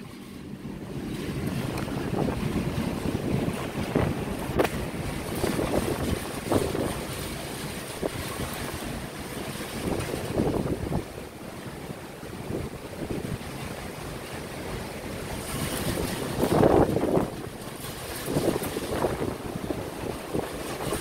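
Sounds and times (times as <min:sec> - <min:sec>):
rough sea washing: 0:00.0 - 0:21.0
wind gusting across microphone: 0:00.0 - 0:21.0.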